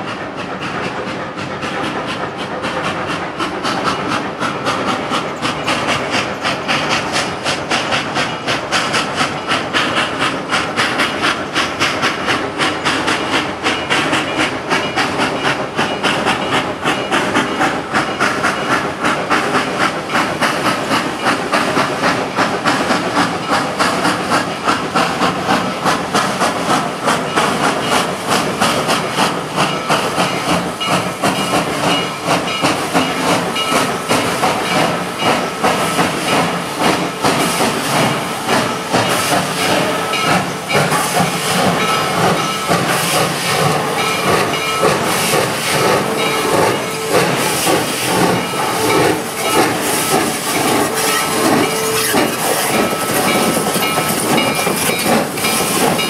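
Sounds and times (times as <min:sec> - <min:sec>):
hissing steam: 0:00.0 - 0:56.0
steam locomotive exhaust chuffs: 0:00.0 - 0:56.0.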